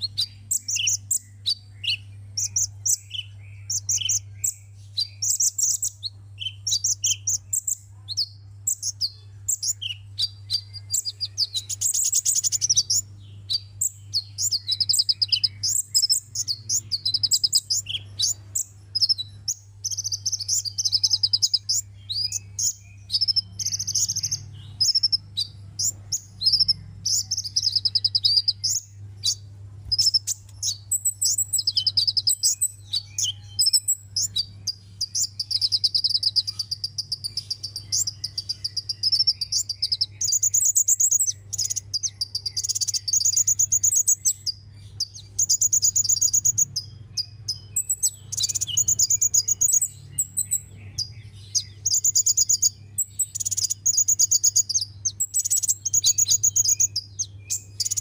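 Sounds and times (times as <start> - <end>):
bird singing trilled phrases: 0.0 - 58.0.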